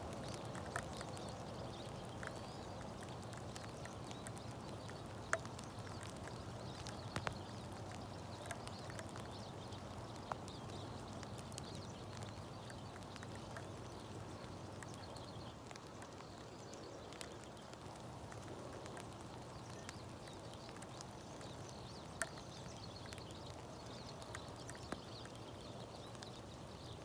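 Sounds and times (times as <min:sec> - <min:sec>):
raindrops tapping close by: 0:00.0 - 0:27.0
steady rain: 0:00.0 - 0:27.0.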